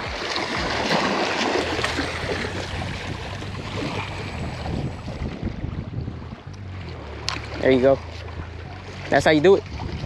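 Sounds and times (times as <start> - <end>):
water lapping against rocks: 0.0 - 10.0
wind buffeting the microphone: 0.0 - 10.0.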